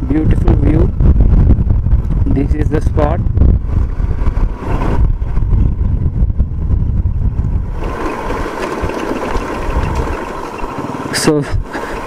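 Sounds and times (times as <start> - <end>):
motorcycle engine hum: 0.0 - 12.0
wind rumbling on microphone: 0.0 - 12.0.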